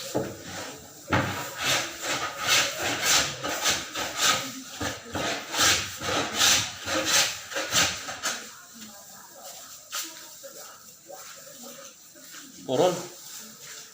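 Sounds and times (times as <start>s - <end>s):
rhythmic scraping strokes: 0.0s - 13.9s.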